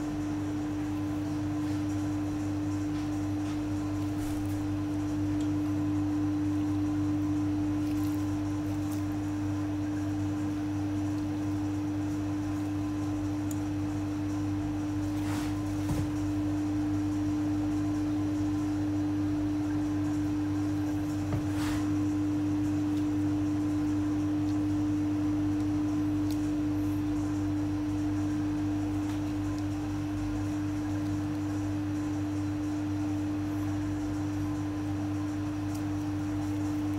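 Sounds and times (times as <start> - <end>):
steady hum: 0.0 - 36.9.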